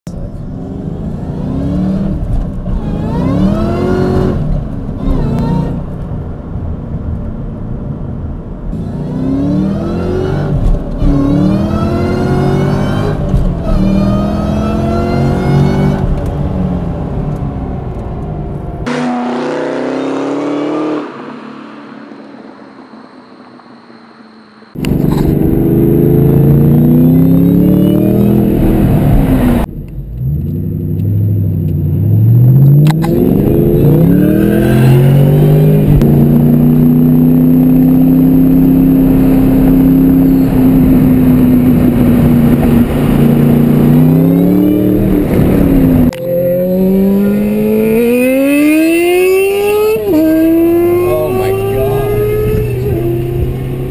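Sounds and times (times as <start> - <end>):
car engine accelerating hard: 0.2 - 6.0, 8.7 - 24.0, 24.6 - 53.9.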